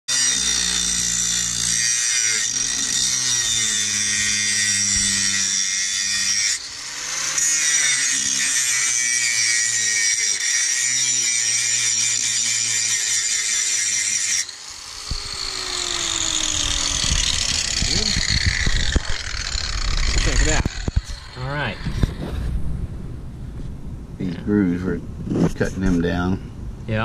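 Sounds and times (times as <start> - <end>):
angle grinder grinding metal: 0.1 - 22.3.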